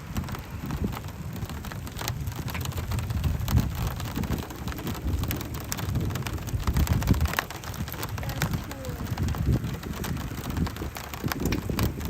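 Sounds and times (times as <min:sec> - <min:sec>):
raindrops ticking: 0:00.0 - 0:12.0
wind rumbling on microphone: 0:00.0 - 0:12.0.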